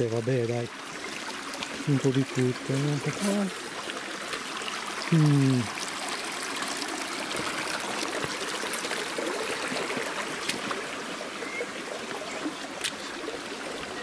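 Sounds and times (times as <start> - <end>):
creek water over rocks: 0.0 - 14.0.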